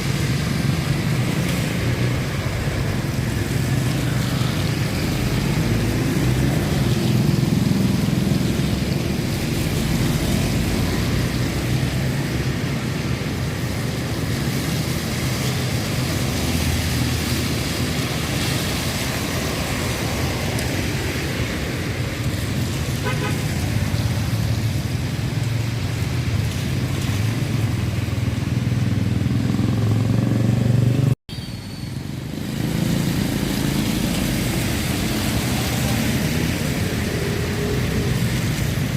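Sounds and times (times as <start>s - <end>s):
cars and motorcycles passing: 0.0s - 38.9s.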